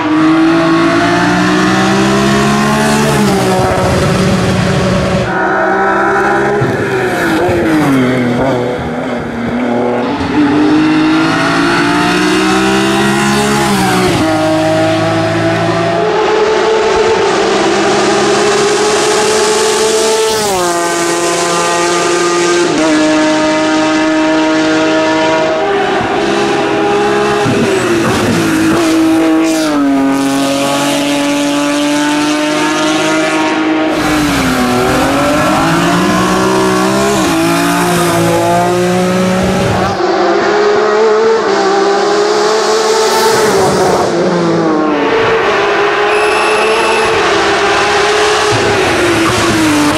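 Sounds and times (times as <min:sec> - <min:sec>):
race car engine at full throttle: 0:00.0 - 0:49.9.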